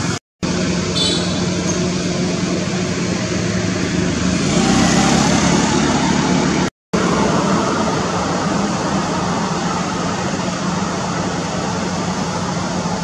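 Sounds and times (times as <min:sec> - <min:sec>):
vehicle noise with low hum: 0:00.0 - 0:13.0.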